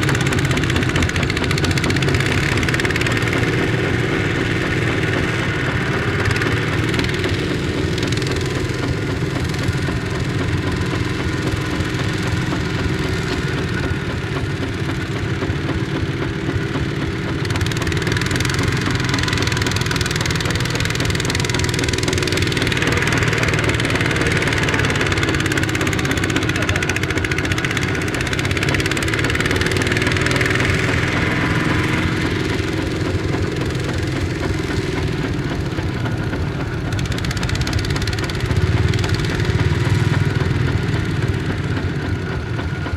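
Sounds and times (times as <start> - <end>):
diesel tractor engine running: 0.0 - 42.9.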